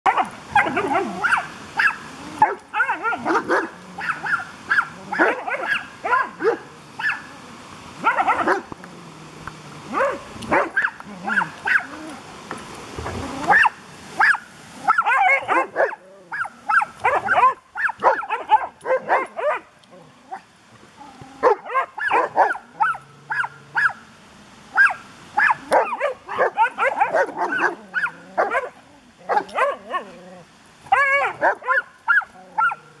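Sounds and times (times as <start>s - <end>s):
dogs barking and yipping: 0.1s - 7.3s, 8.0s - 8.8s, 9.9s - 12.2s, 13.4s - 19.7s, 21.4s - 24.0s, 24.8s - 30.2s, 30.8s - 32.9s.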